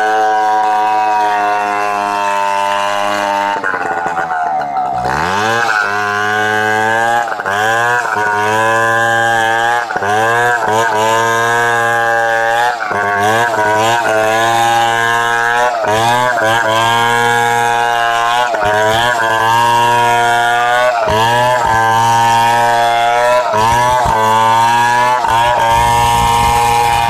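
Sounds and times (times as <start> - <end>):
chainsaw cutting through log: 0.0 - 27.0.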